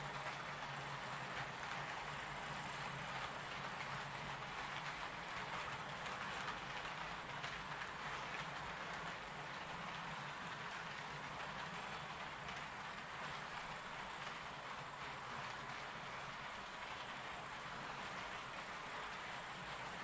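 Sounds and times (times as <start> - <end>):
model train wheels rolling on rails: 0.0 - 20.0.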